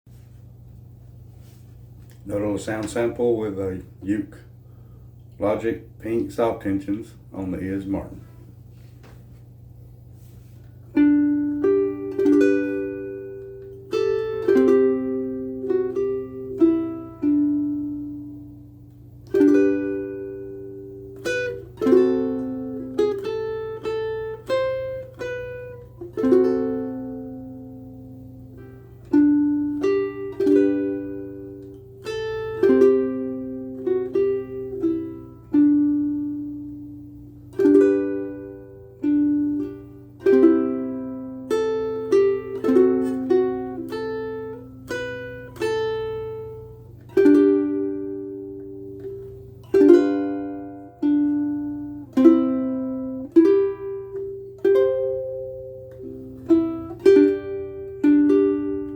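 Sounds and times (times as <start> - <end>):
faint low hum: 0.1 - 58.9
ukulele plucked and strummed: 1.4 - 4.3, 10.2 - 58.9.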